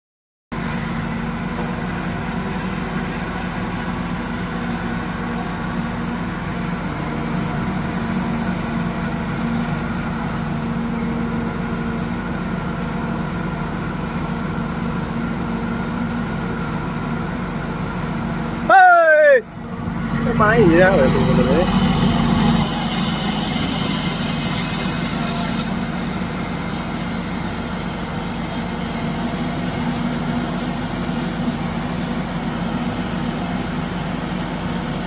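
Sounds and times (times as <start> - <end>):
diesel engine running: 0.5 - 35.0.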